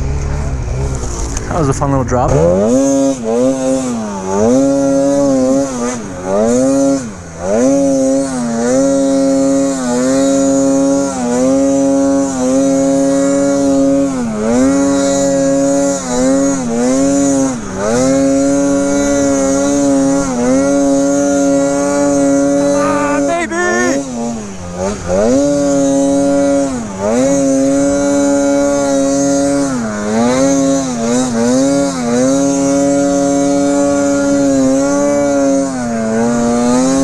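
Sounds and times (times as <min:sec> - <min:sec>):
snowmobile engine at high revs: 0:00.0 - 0:37.0.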